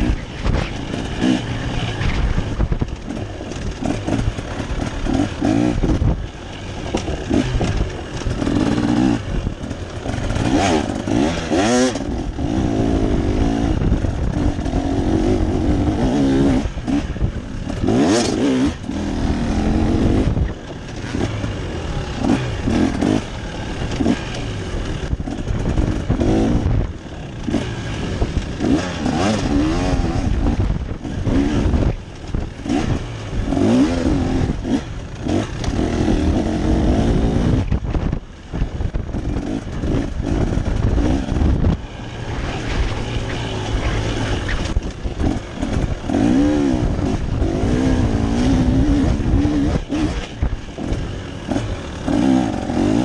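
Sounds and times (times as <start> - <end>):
engine revving: 0.0 - 53.0
steady rushing noise: 0.0 - 53.0.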